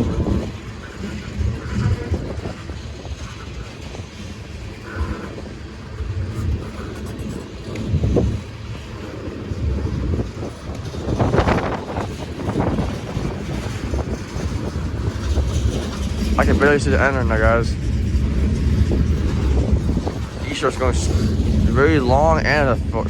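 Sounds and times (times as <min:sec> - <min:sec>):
freight train cars rolling past: 0:00.0 - 0:23.0
wheels thumping over rails: 0:00.0 - 0:23.0.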